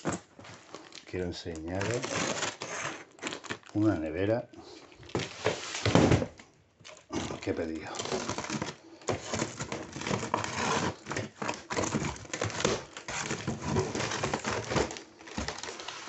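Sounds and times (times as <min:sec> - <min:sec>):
plastic stretch wrap crinkling: 0:00.0 - 0:04.2, 0:06.8 - 0:16.0.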